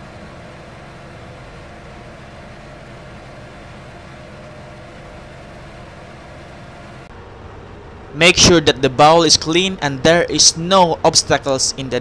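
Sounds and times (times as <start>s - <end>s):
machinery hum with drone: 0.0s - 12.0s
noisy hiss: 0.0s - 12.0s.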